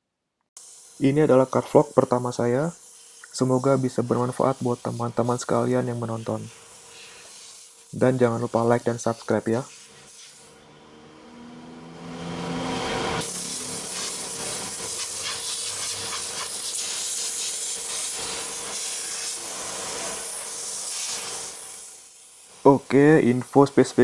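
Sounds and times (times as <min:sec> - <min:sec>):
high-pressure spray hissing: 0:00.6 - 0:10.5, 0:13.1 - 0:24.0.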